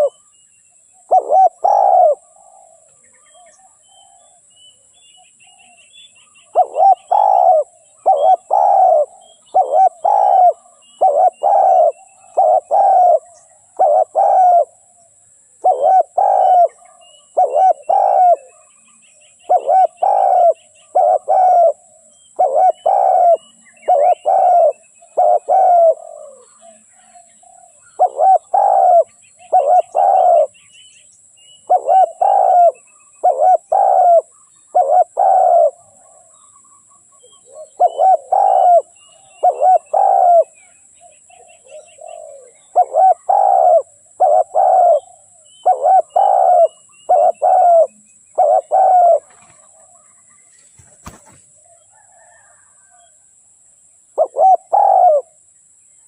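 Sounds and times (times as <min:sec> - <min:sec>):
dove cooing: 0:00.0 - 0:00.2, 0:01.0 - 0:04.4, 0:05.5 - 0:30.6, 0:31.6 - 0:53.1, 0:54.2 - 0:55.4
small birds chirping: 0:00.0 - 0:53.1.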